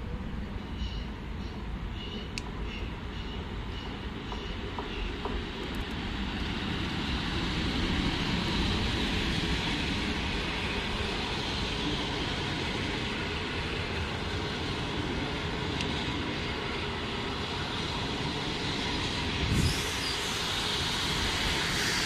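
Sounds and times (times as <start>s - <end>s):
train wheels on rails: 0.4s - 22.0s.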